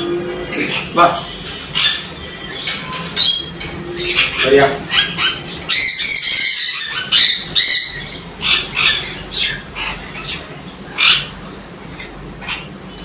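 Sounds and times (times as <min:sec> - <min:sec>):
parrots calling: 0:00.0 - 0:13.0.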